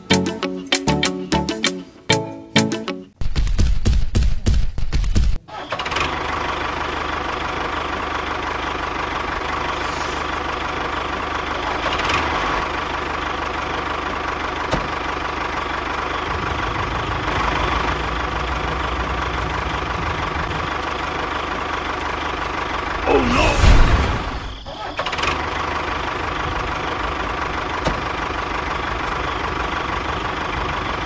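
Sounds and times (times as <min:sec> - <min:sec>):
tractor engine idling: 0:05.5 - 0:31.0.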